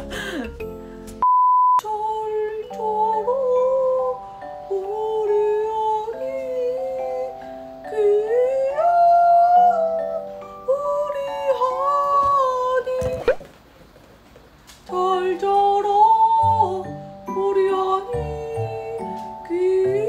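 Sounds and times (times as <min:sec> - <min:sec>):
gentle instrumental backing: 0:00.0 - 0:13.3, 0:14.7 - 0:20.0
woman singing lullaby: 0:01.8 - 0:13.2, 0:14.9 - 0:20.0.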